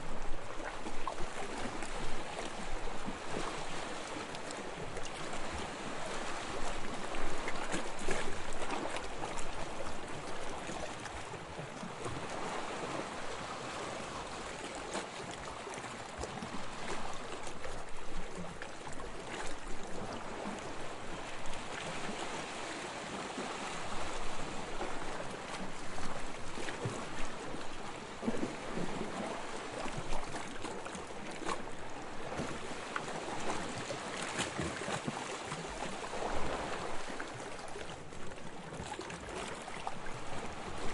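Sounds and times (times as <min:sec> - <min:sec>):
small waves lapping on sand: 0:00.0 - 0:40.9.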